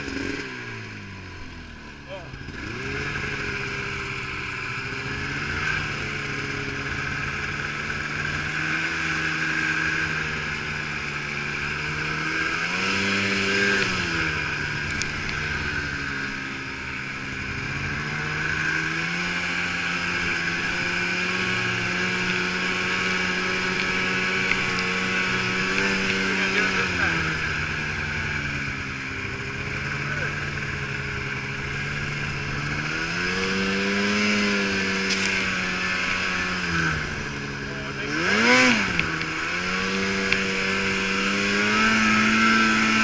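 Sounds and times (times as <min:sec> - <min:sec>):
snowmobile engine revving: 0:00.0 - 0:43.0.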